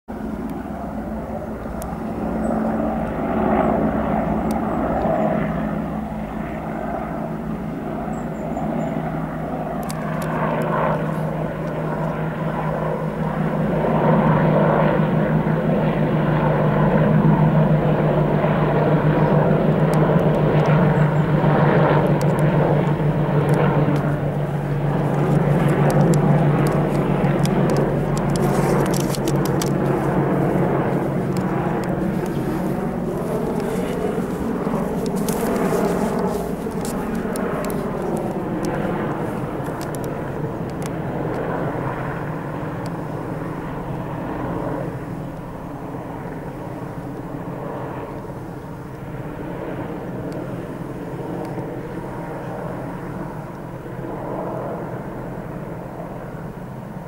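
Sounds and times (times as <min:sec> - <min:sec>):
helicopter rotor drone: 0:00.1 - 0:57.0.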